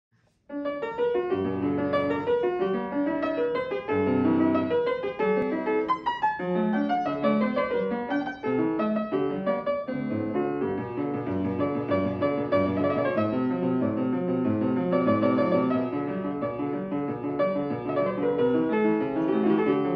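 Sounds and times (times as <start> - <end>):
fortepiano playing fast notes: 0.5 - 19.9.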